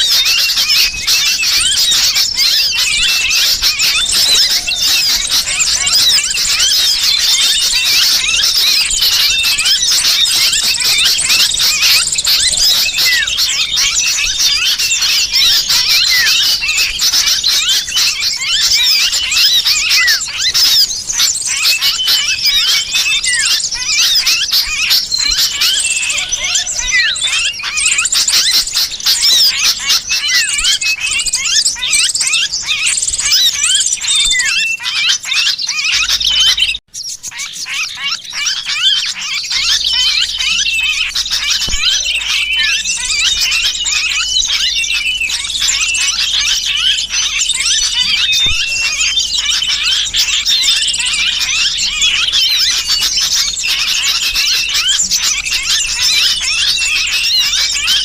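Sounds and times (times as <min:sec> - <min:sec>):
bulbul chattering: 0:00.0 - 0:58.0
small birds chirping: 0:00.0 - 0:58.0.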